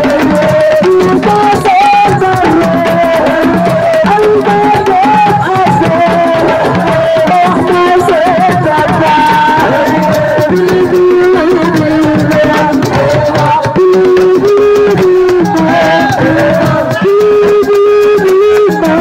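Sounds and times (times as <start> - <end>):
hand drums: 0.0 - 19.0.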